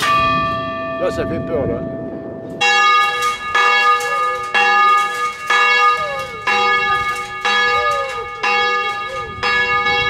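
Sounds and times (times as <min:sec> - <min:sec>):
church bell tolling: 0:00.0 - 0:10.0.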